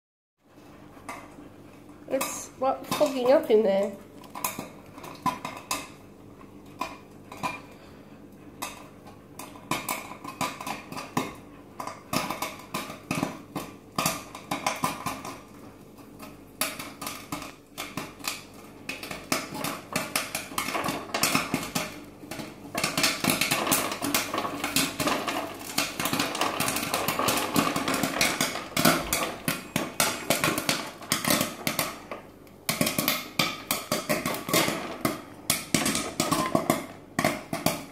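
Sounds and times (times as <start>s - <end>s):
popcorn machine hum: 0.5s - 37.9s
popcorn popping: 2.0s - 37.9s.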